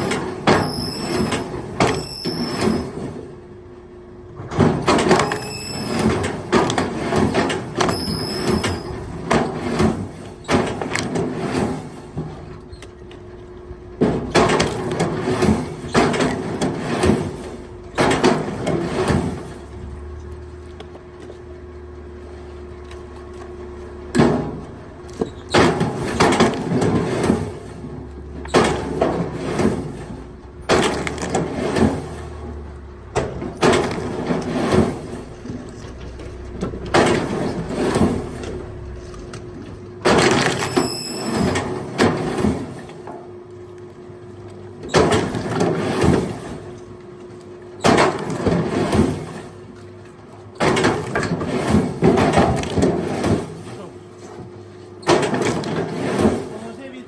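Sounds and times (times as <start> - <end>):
steady motor hum: 5.2 - 57.0.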